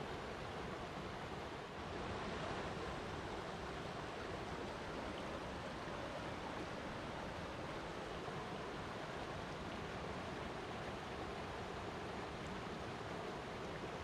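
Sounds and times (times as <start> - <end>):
water flowing and splashing: 0.0 - 14.0.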